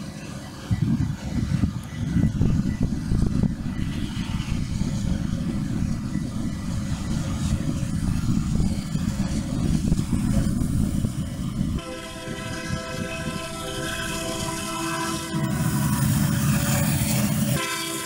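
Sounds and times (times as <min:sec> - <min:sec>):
distant diesel locomotives: 0:00.0 - 0:18.0
wind buffeting microphone: 0:00.4 - 0:17.6.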